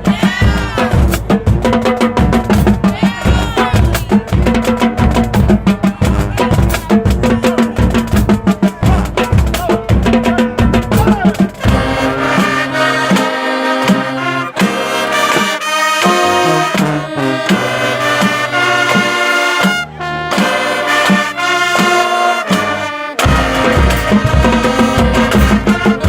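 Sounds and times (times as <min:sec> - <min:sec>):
marching band brass melody: 0:00.0 - 0:26.0.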